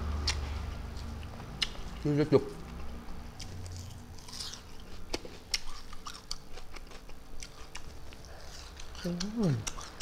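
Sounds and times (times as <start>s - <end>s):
open-mouth chewing: 0.2s - 2.0s, 2.6s - 10.0s.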